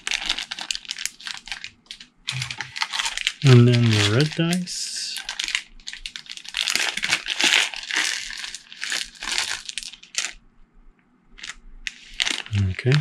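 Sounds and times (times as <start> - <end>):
plastic bag crinkling: 0.0 - 10.4, 11.4 - 13.0.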